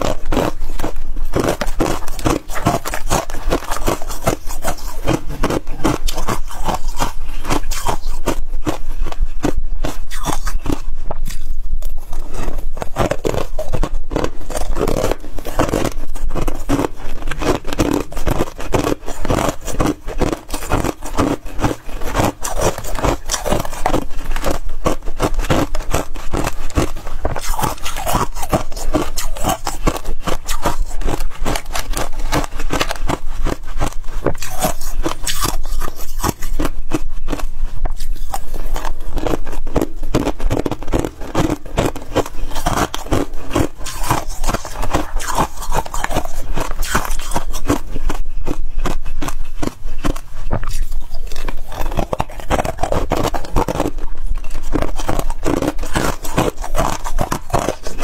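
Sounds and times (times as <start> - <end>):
freezer frost being scraped: 0.0 - 58.0.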